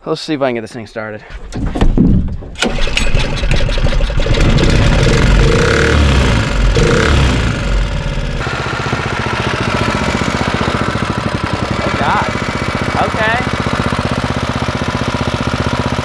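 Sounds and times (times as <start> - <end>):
small gas engine running: 2.6 - 16.0.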